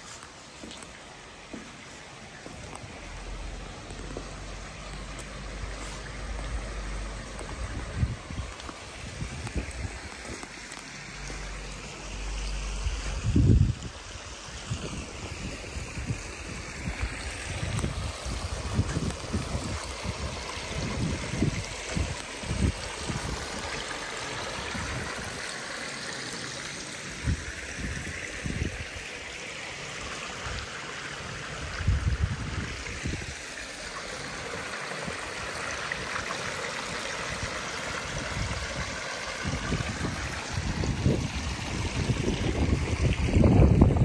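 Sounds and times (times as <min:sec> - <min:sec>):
water spilling over weir: 0:00.0 - 0:44.0.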